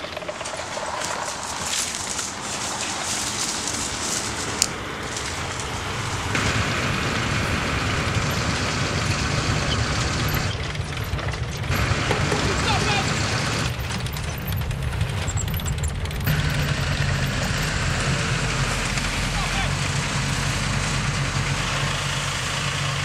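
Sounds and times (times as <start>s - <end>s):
halftrack engine rumbling: 0.0s - 23.0s.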